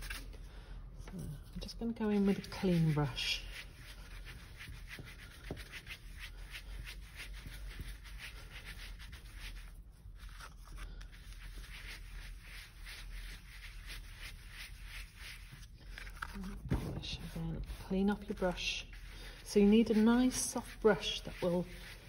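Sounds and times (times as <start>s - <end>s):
brush rubbing over cardstock: 1.8s - 22.0s.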